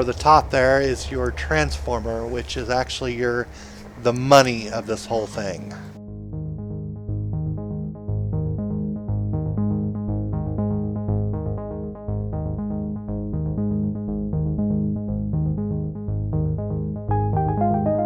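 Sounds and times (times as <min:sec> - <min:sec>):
synthesizer and electric piano music: 0:00.0 - 0:18.0.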